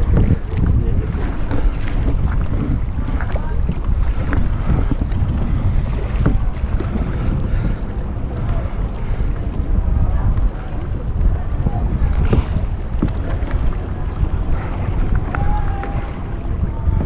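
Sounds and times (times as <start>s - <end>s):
paddle blades dipping: 0.0s - 17.0s
water splashing against hull: 0.0s - 17.0s
wind buffeting microphone: 0.0s - 17.0s.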